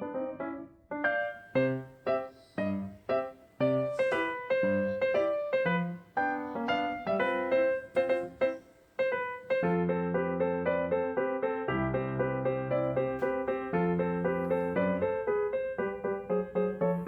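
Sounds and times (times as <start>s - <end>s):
piano-like keyboard melody: 1.2s - 17.0s.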